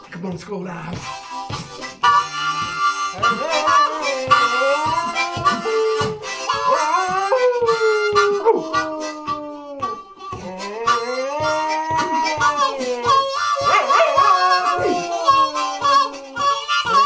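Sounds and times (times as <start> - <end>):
blues harmonica: 0.8 - 17.0
dog howling: 3.2 - 17.0.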